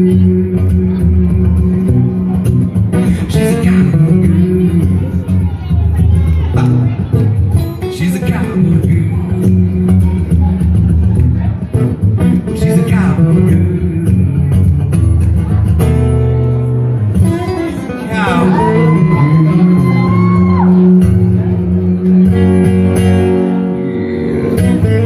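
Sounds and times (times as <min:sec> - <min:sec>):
country-rock song with guitars: 0:00.0 - 0:25.0.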